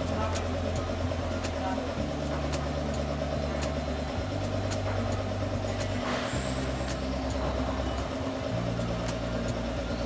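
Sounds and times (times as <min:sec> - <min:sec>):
workshop machinery humming: 0:00.0 - 0:10.0.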